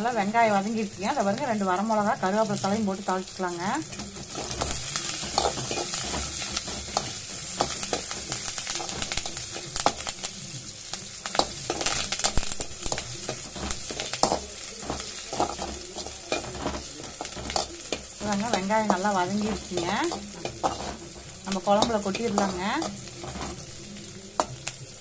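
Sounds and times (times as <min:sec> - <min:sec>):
food sizzling in hot oil: 0:00.0 - 0:25.0
steel spoon scraping a pan: 0:00.3 - 0:10.1, 0:11.3 - 0:24.6.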